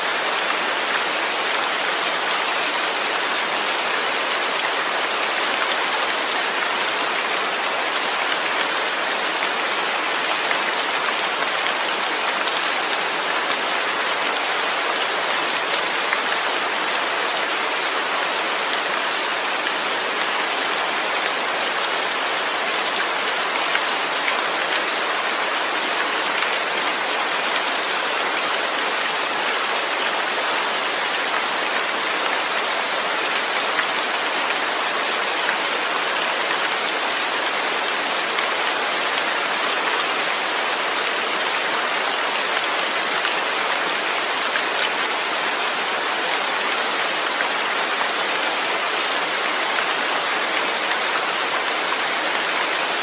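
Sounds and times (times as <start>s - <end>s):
steady rain patter: 0.0s - 53.0s.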